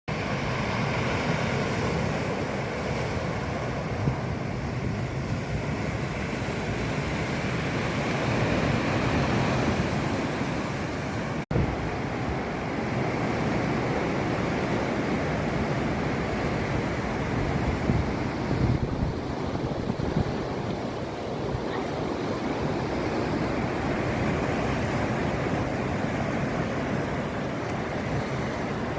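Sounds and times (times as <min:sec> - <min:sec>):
sea waves breaking on shore: 0:00.1 - 0:28.9.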